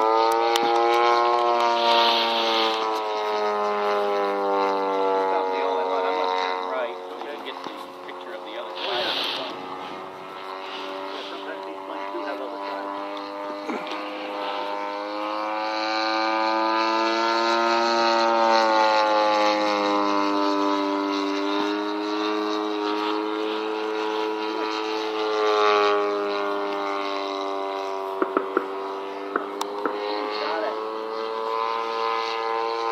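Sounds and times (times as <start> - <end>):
model plane engine buzzing: 0.0 - 32.9.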